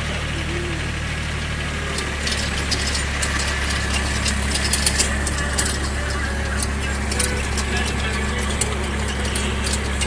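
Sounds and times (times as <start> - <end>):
diesel tractor engine running: 0.0 - 10.0
sharp clicking and rattling: 1.9 - 10.0.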